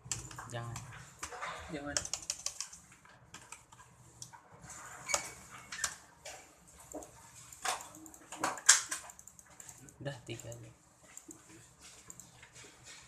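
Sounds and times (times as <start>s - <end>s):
computer keyboard and mouse clicks: 0.0s - 1.4s, 2.0s - 4.4s, 5.1s - 13.0s.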